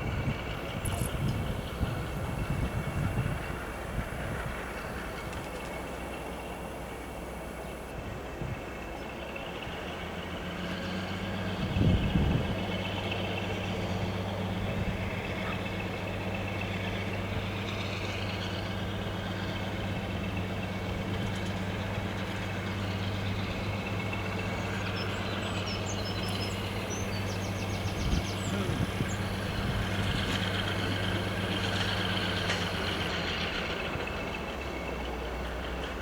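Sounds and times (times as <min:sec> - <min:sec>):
diesel locomotive engine idling: 0:00.0 - 0:36.0.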